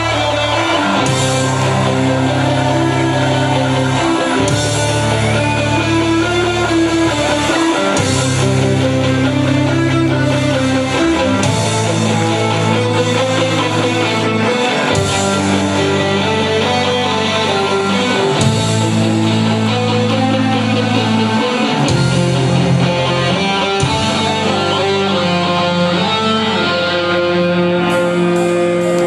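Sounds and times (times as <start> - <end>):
electric guitars playing melody: 0.0 - 29.0
sustained bass notes: 0.0 - 29.0.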